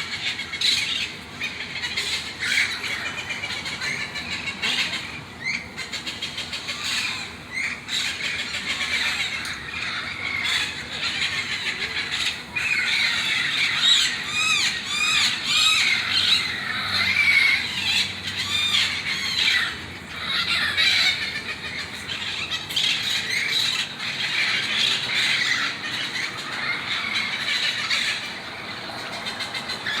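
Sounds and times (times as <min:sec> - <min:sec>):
parrots squawking and screeching: 0:00.0 - 0:30.0.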